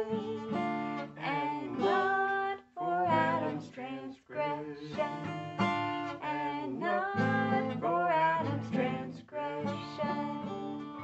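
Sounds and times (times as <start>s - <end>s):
woman singing: 0.0s - 10.8s
strummed acoustic guitar: 0.0s - 11.0s.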